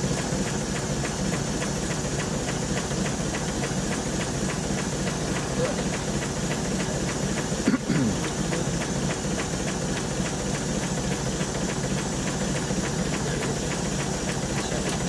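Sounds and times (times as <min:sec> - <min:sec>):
steam engine ticking: 0:00.0 - 0:15.0.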